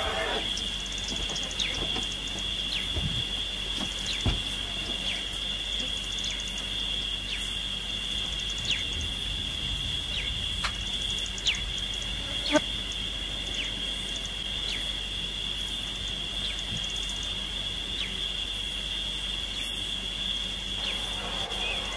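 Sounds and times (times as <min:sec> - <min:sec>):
insects droning: 0:00.0 - 0:21.9.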